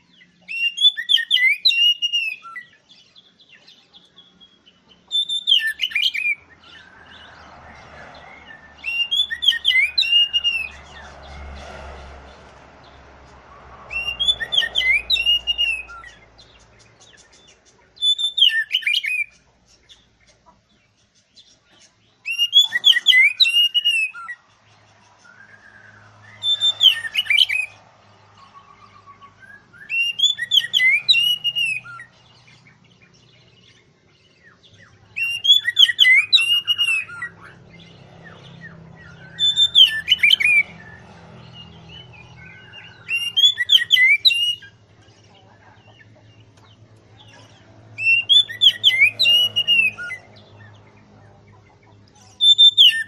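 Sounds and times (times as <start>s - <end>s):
bird singing whistled song: 0.0s - 7.5s, 8.1s - 11.5s, 13.8s - 20.1s, 21.2s - 24.5s, 25.2s - 27.8s, 28.4s - 44.8s, 47.2s - 51.0s, 52.4s - 53.0s.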